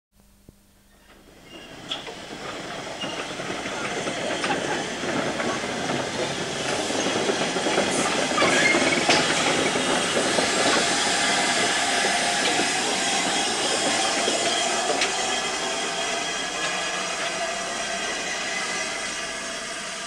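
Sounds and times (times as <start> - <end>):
locomotive wheels clanking: 1.0 - 19.7
steam hissing: 1.1 - 20.0.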